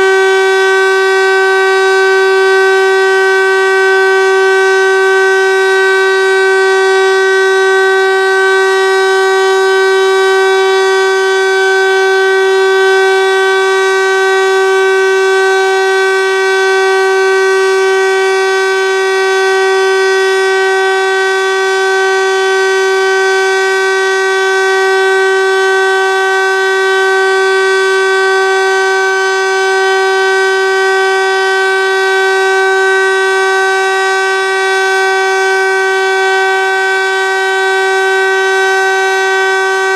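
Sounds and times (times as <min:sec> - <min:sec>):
motor siren steady tone: 0:00.0 - 0:39.9.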